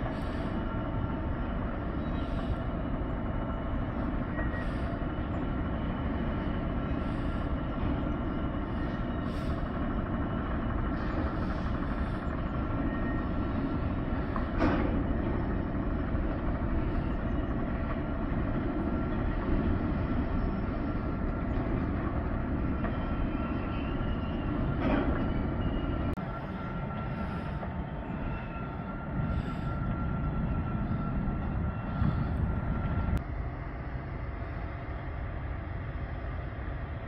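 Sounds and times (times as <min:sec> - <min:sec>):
diesel locomotive engine rumble: 0:00.0 - 0:37.0
faint steady whine: 0:00.0 - 0:37.0.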